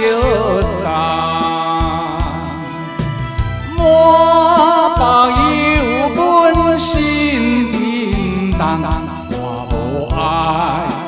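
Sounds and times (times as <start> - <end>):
karaoke backing track: 0.0 - 11.0
man singing a ballad: 0.0 - 11.0.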